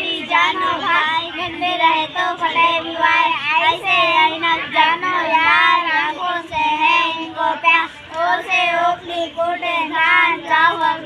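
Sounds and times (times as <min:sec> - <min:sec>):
boys chanting a poem: 0:00.0 - 0:11.0.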